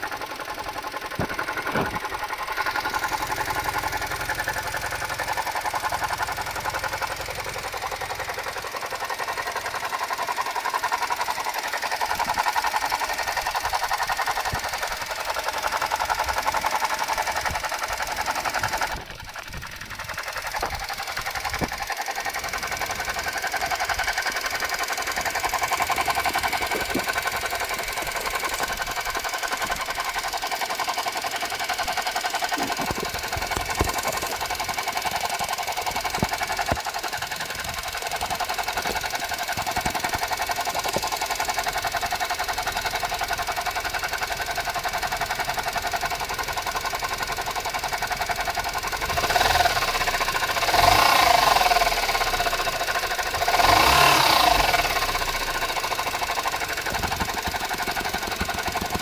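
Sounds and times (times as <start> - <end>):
alternator rattling whir: 0.0 - 59.0
car engine idling: 0.0 - 59.0.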